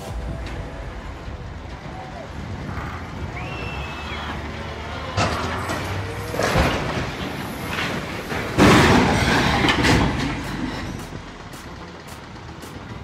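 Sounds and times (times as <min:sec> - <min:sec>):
crane crashing and rumbling: 0:00.0 - 0:13.0.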